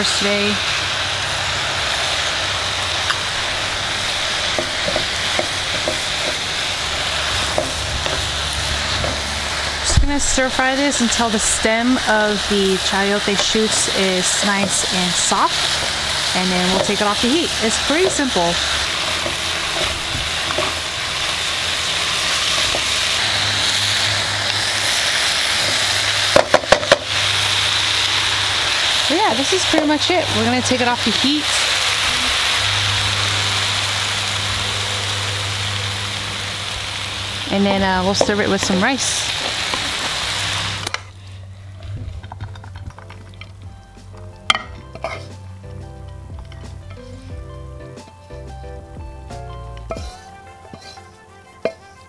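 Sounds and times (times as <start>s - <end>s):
food sizzling in a pan: 0.0s - 41.9s, 49.2s - 52.0s.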